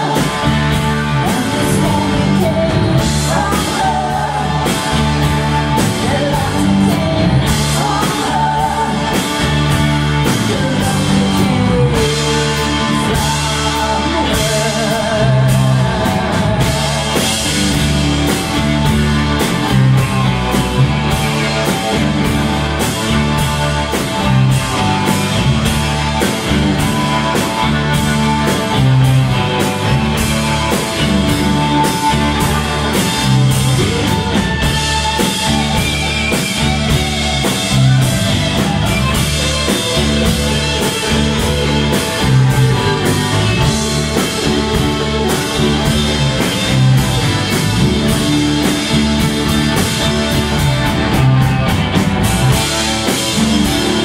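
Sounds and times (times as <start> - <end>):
live rock band playing: 0.0 - 54.0
steady drum beat: 0.0 - 54.0.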